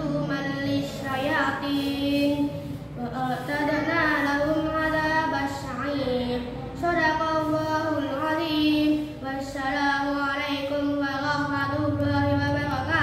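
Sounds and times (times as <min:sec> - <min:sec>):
boy chanting melodically: 0:00.0 - 0:13.0.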